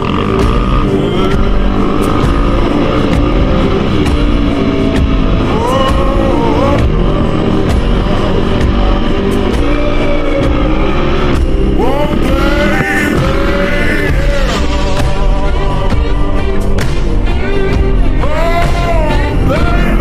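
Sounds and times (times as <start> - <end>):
loud music: 0.0 - 20.0
motorcycle engine revving: 0.0 - 20.0.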